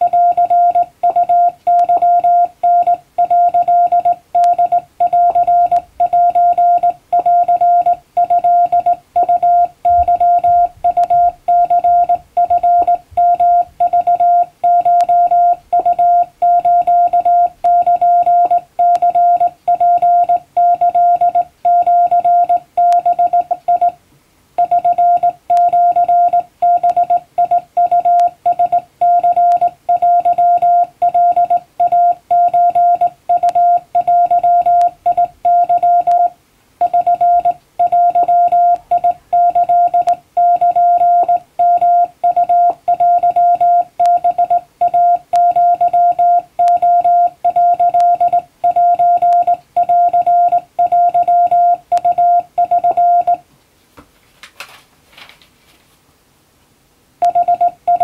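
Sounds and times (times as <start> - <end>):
morse code tone: 0.0 - 24.0, 24.6 - 53.4, 57.2 - 58.0.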